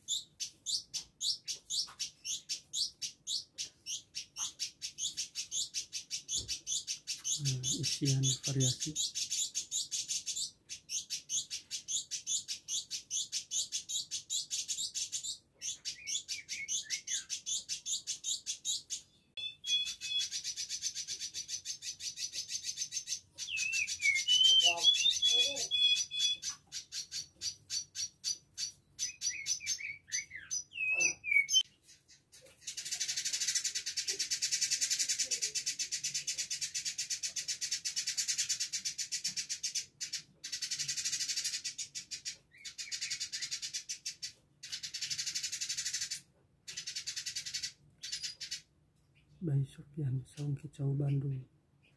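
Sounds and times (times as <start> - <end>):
bird chattering song: 0.0 - 51.9.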